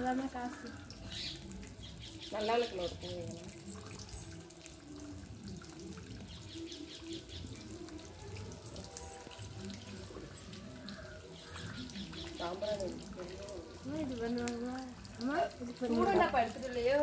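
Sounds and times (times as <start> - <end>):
murmur of distant voices: 0.0 - 17.0
running and splashing water: 0.0 - 17.0
water drips: 0.0 - 17.0.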